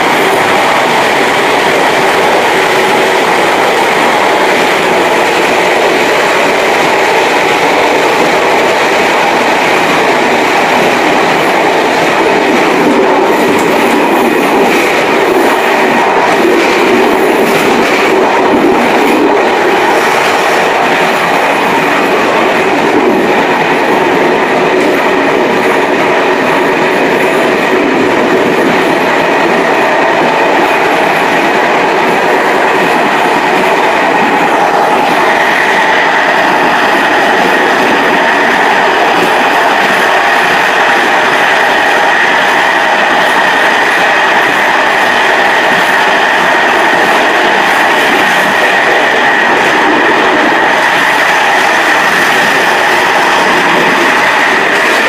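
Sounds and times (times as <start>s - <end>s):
train wheels on track: 0.0s - 55.0s.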